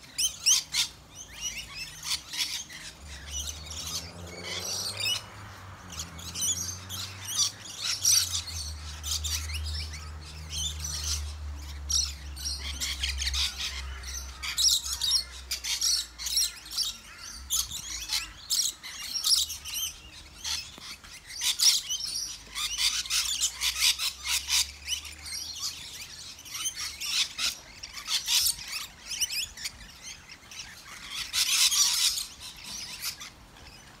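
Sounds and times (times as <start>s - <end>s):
lorikeets chattering: 0.0s - 34.0s.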